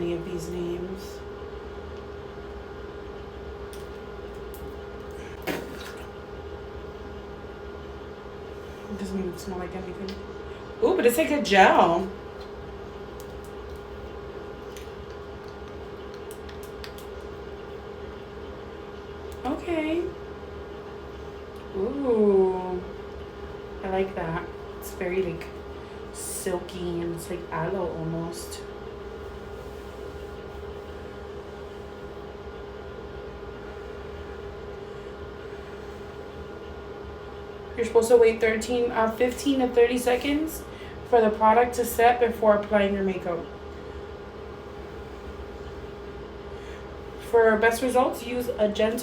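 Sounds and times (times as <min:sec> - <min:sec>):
background hum: 0:00.0 - 0:49.0.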